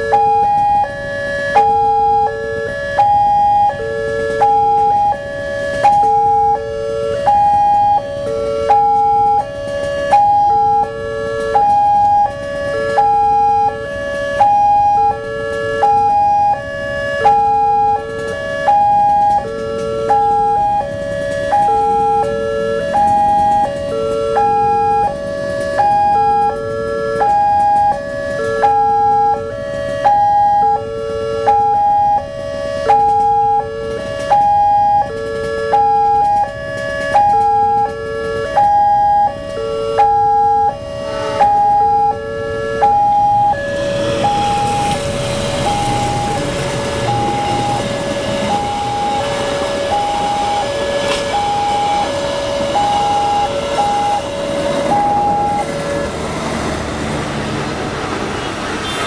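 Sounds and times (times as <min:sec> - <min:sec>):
level crossing warning alarm: 0:00.0 - 0:59.0.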